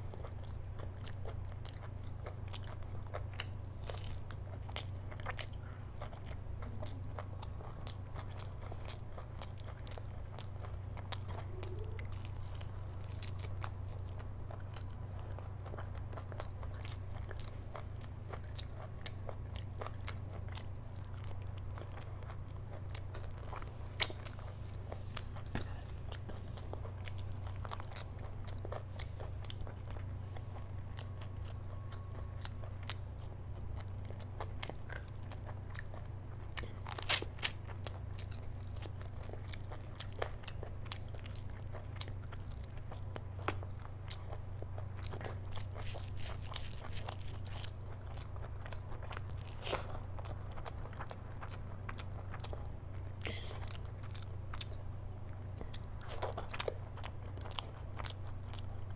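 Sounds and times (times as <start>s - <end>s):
person chewing and biting food: 0.0s - 58.9s
steady low hum: 0.0s - 58.9s.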